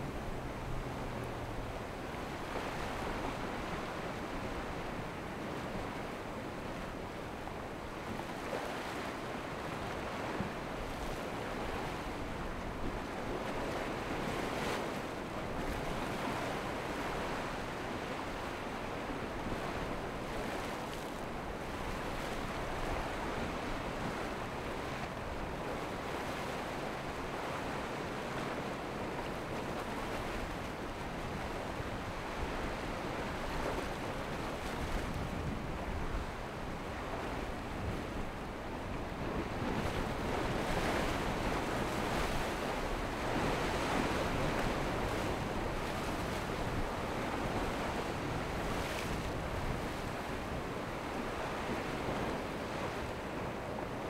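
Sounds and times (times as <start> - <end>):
breaking waves and surf: 0.0 - 54.0
wind noise on microphone: 0.0 - 54.0.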